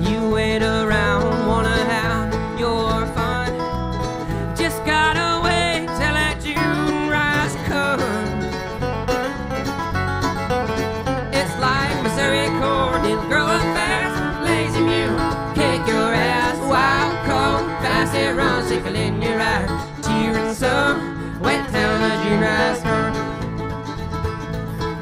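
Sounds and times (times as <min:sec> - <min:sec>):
acoustic guitar: 0:00.0 - 0:25.0
banjo: 0:00.0 - 0:25.0
bluegrass string band: 0:00.0 - 0:25.0.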